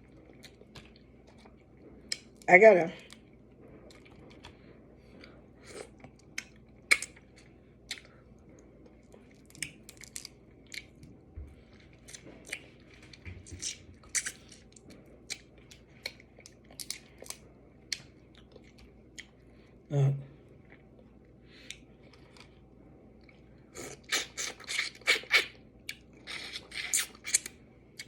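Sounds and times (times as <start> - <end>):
person chewing with lip smacks: 0.0 - 19.4, 23.2 - 28.0.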